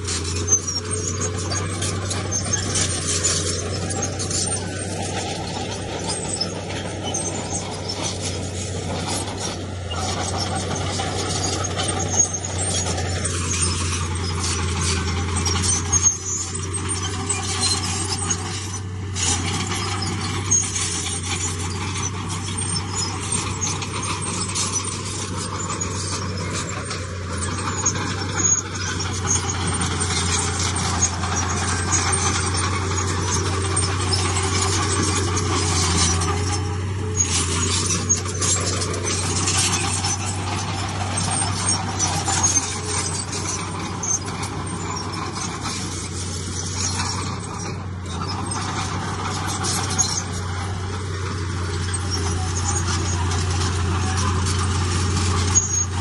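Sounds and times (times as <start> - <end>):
diesel machinery engine drone: 0.0 - 56.0.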